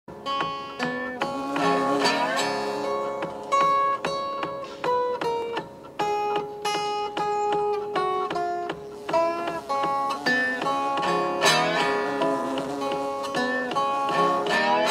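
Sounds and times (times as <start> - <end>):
resonator guitar fingerpicked: 0.1 - 14.9.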